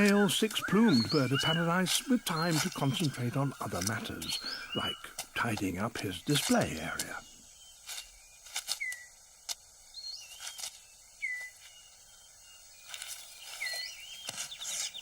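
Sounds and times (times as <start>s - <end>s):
whistled bird calls: 0.0s - 5.2s, 6.1s - 9.2s, 9.9s - 15.0s
insect hum: 0.0s - 15.0s
rustling leaf litter and twigs: 0.0s - 15.0s.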